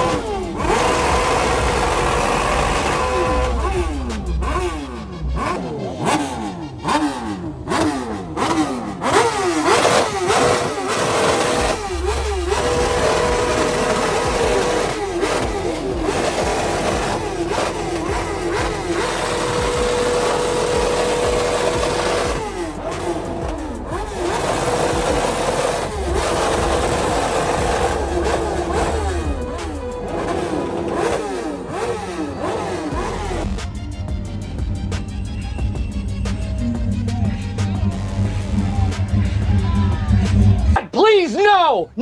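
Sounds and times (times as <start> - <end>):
car engine revving: 0.0 - 40.8.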